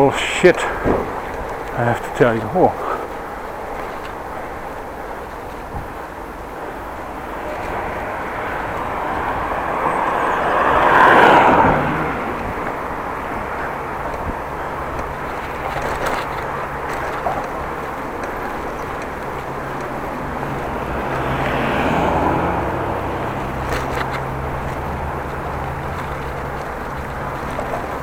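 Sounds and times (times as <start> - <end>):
bicycle riding rush: 0.0 - 28.0
motor vehicle passing: 0.0 - 28.0.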